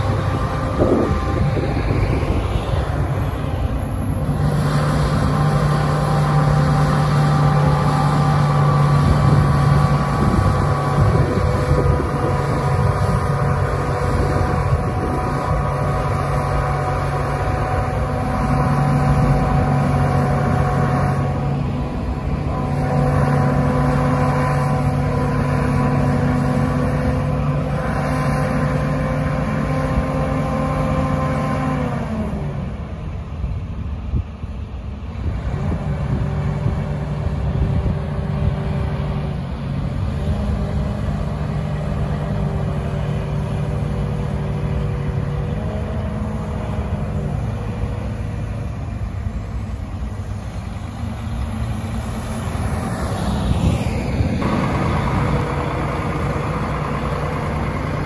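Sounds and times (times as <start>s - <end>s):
road traffic rumbling: 0.0s - 58.0s
snowplow engine droning: 0.0s - 58.0s.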